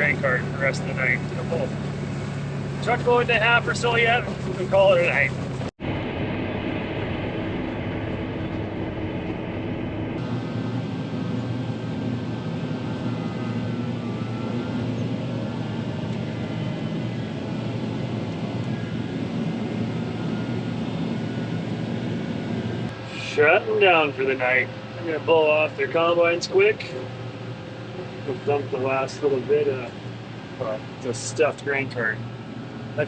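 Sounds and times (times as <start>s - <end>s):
heavy machinery engine drone: 0.0s - 33.0s
thin machine whine: 0.0s - 33.0s.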